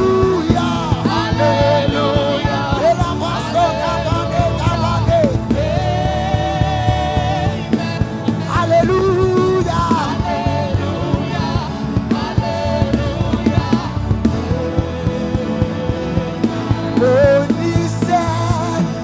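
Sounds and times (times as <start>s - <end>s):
band with steady drum beat: 0.0s - 19.0s.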